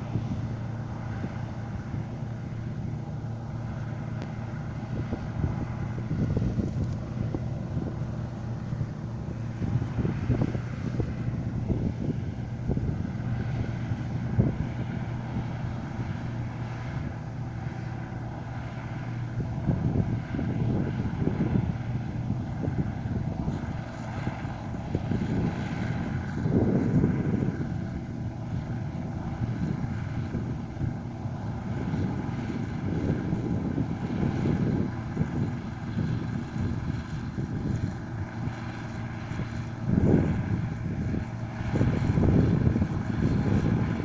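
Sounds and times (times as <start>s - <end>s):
diesel engine running: 0.0s - 44.0s
wind buffeting microphone: 0.0s - 44.0s.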